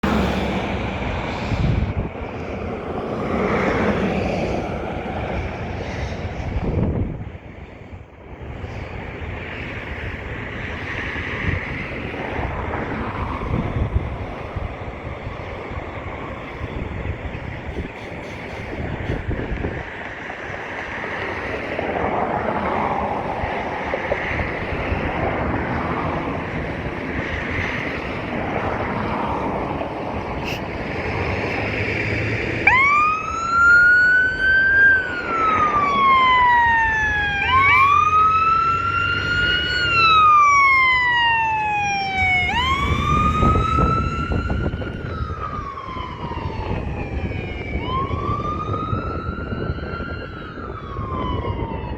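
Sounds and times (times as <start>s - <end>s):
fire engine siren: 0.0s - 51.9s
traffic rushing: 0.0s - 51.9s
wind: 0.0s - 51.9s.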